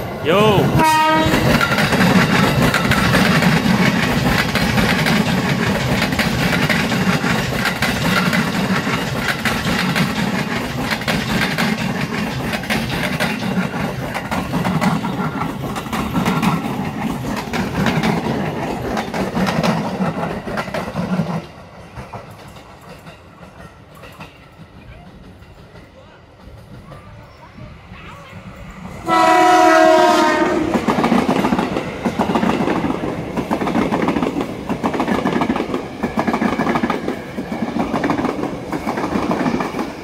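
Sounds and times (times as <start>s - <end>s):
train heavy rumble: 0.0s - 40.0s
train wheels clattering over rail joints: 1.3s - 27.0s, 30.8s - 40.0s.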